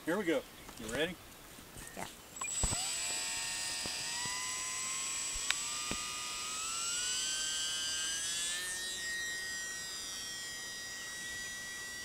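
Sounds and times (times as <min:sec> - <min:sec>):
electric motor and propeller whining: 0:02.4 - 0:12.0.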